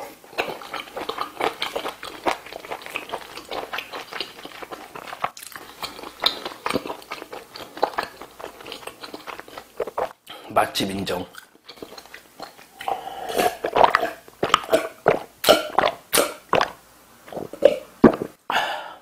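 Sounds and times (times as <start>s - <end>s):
chewing with mouth clicks: 0.2s - 10.3s, 11.3s - 18.3s.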